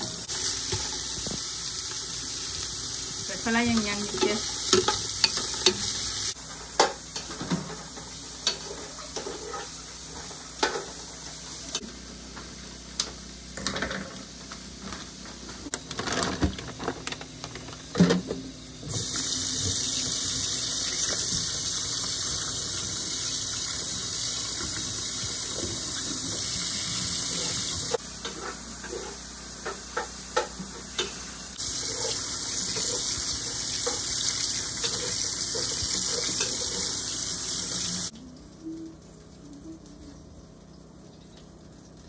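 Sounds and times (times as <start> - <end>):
onions sizzling in a pot: 0.0 - 15.7, 18.8 - 39.4.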